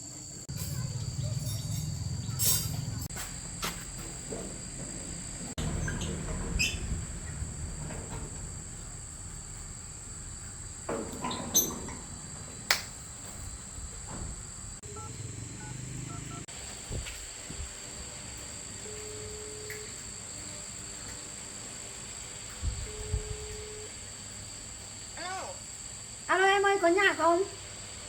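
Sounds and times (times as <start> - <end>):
crickets droning: 0.0 - 28.0.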